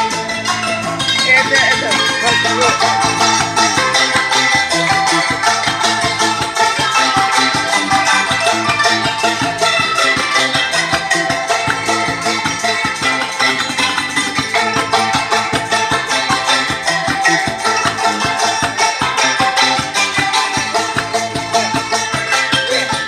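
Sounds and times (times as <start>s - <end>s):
plucked lute: 0.0s - 23.0s
steady beat: 0.0s - 23.0s
wooden xylophones: 0.0s - 23.0s.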